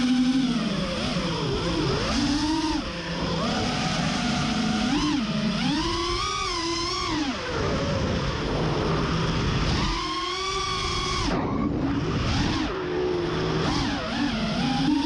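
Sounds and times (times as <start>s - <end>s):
propeller wind noise: 0.0s - 15.0s
quadcopter motors whining: 0.0s - 15.0s.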